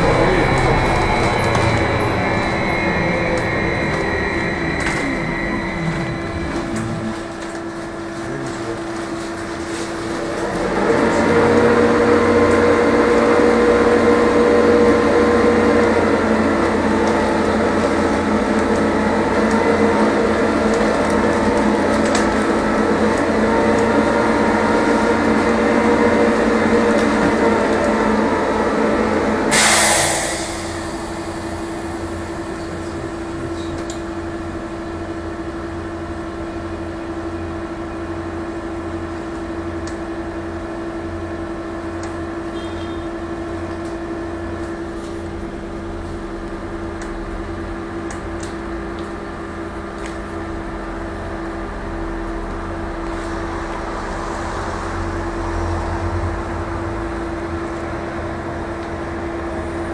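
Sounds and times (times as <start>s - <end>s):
air compressor hum and whine: 0.0s - 59.9s.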